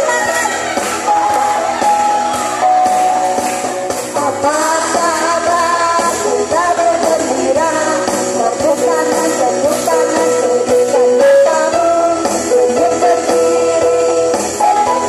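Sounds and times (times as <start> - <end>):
woman singing into microphone: 0.0 - 1.5, 4.0 - 15.0
electronic keyboard playing: 0.0 - 8.0, 8.6 - 15.0.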